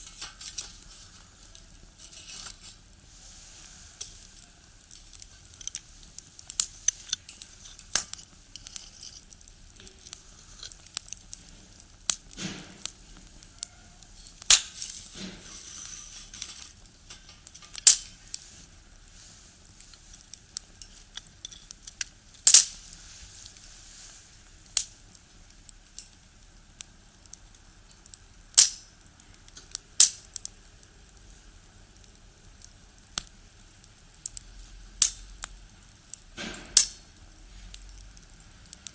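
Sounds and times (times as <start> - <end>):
faint fire hiss: 0.0 - 38.9
wood fire crackling and popping: 0.0 - 38.9.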